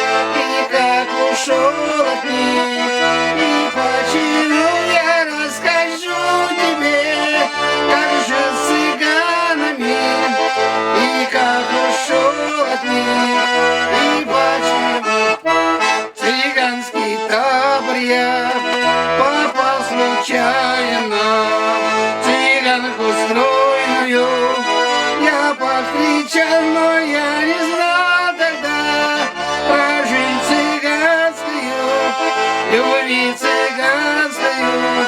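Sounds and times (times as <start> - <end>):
button accordion folk melody: 0.0 - 35.0.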